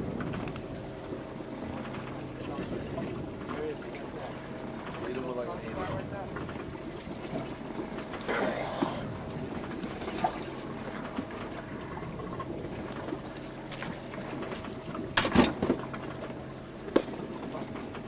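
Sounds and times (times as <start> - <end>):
boat motor humming: 0.0 - 18.0
water: 0.0 - 18.0.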